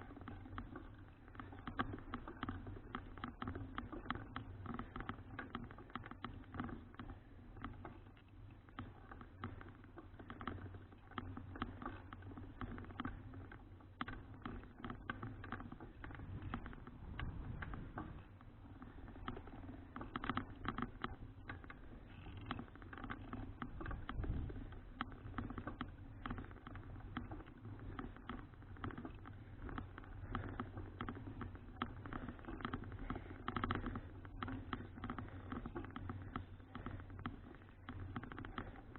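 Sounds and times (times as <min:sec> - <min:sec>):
bicycle rattling and clicking: 0:00.0 - 0:38.9
wind: 0:00.0 - 0:38.9.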